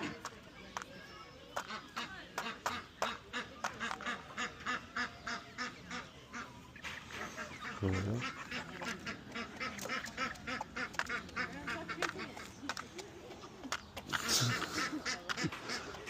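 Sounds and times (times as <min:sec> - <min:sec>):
ducks or geese calling: 0:01.6 - 0:16.0.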